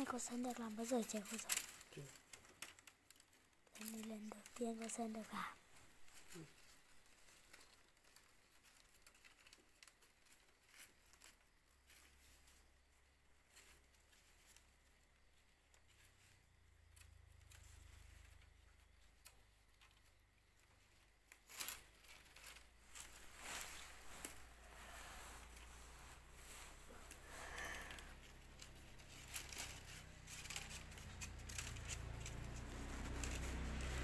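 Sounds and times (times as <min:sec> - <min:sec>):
crackling: 0:00.0 - 0:34.0
plant strips clicking and rustling: 0:00.0 - 0:34.0.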